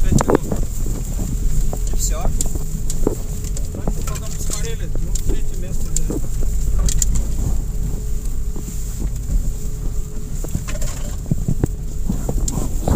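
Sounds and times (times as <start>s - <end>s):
car knocking and rattling: 0.0s - 12.9s
engine and tyre rumble: 0.0s - 12.9s.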